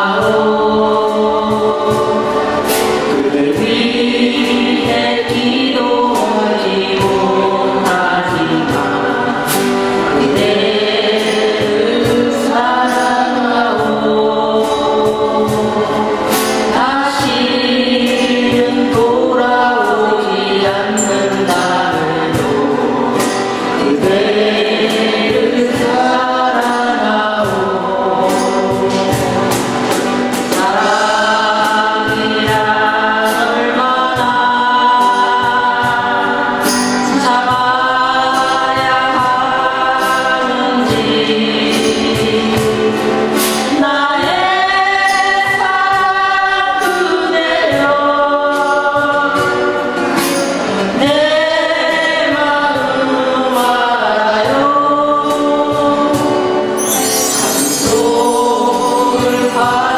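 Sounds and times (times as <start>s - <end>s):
acoustic guitars strummed: 0.0s - 59.9s
voices singing together: 0.0s - 59.9s.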